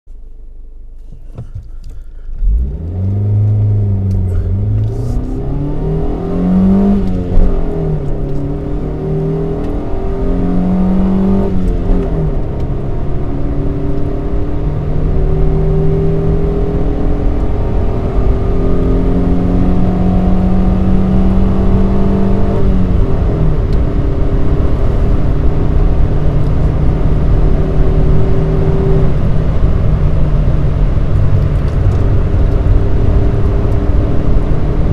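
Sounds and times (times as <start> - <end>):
car engine accelerating: 0.8 - 34.9.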